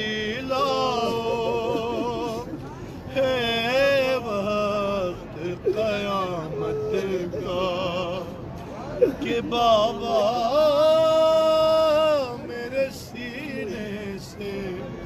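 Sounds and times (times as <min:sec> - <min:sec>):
man chanting a mourning lament: 0:00.0 - 0:15.0.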